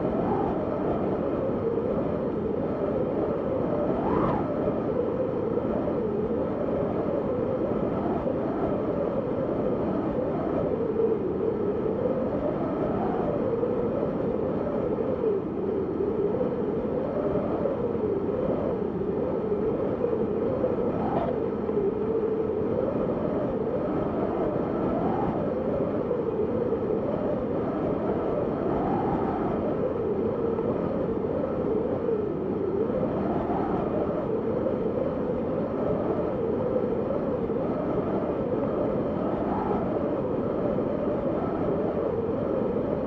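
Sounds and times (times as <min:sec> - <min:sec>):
whistling storm wind: 0:00.0 - 0:43.0.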